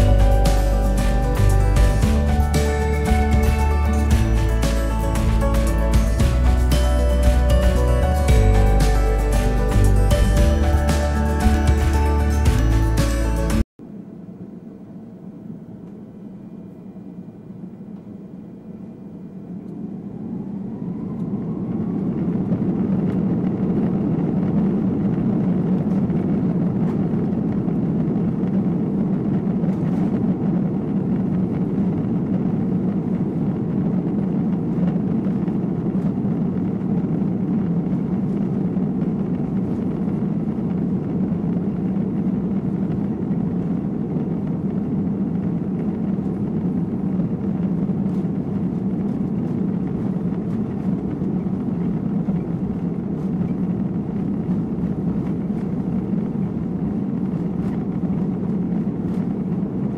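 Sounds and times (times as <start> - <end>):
jet engines spooling up: 0.0 - 59.9
rising engine whine: 0.0 - 59.9.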